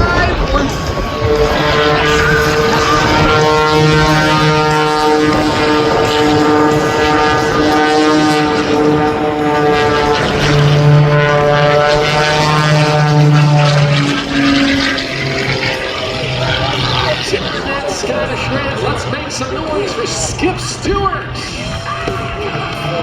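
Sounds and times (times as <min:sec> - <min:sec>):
airplane engine and propeller drone: 0:00.0 - 0:23.0.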